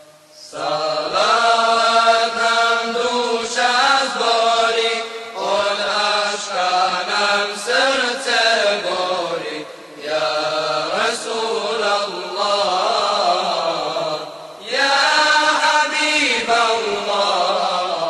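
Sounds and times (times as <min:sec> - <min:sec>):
voices chanting devotional song: 0:00.0 - 0:18.0.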